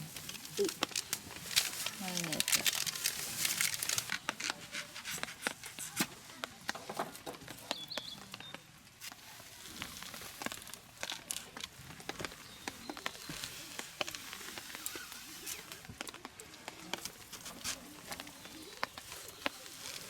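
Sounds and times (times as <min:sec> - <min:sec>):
plastic crinkling: 0:00.0 - 0:20.0.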